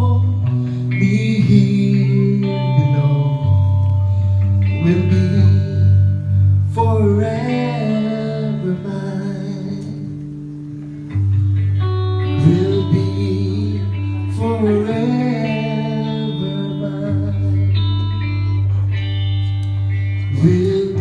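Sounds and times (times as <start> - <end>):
man singing: 0.0 - 10.4, 12.2 - 18.7, 20.1 - 21.0
bass guitar: 0.0 - 21.0
electric guitar: 0.0 - 21.0
worship band playing: 0.0 - 21.0.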